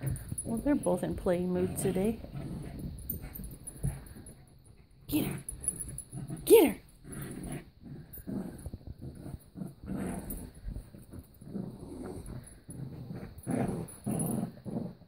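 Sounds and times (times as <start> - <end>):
small dog play growling: 0.0 - 15.0.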